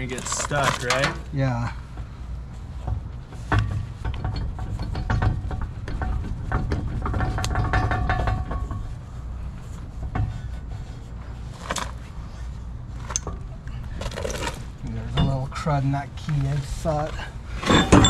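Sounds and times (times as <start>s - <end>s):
metal hub scraping and clicking: 0.0s - 12.1s, 12.9s - 18.0s.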